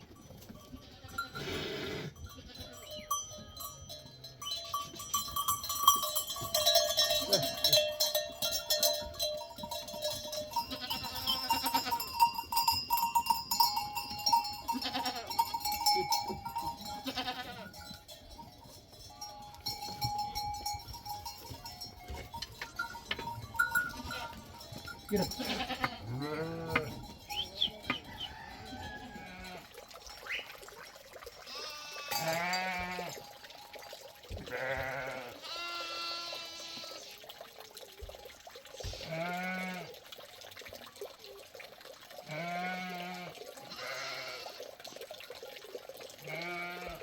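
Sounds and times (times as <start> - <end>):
goat and sheep bells clanking: 0.0 - 37.1, 38.0 - 40.1, 42.2 - 47.0.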